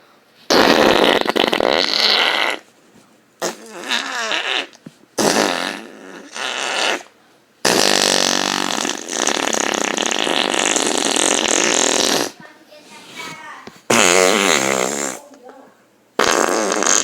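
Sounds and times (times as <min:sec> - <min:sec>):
imitation fart noises: 0:00.5 - 0:02.7, 0:03.4 - 0:12.4, 0:13.1 - 0:15.3, 0:16.2 - 0:17.0.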